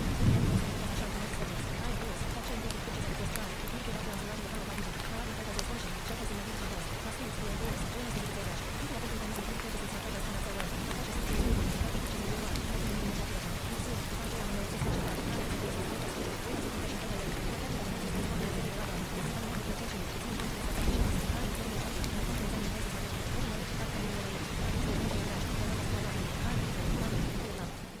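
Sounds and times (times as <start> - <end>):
rain hissing: 0.0 - 28.0.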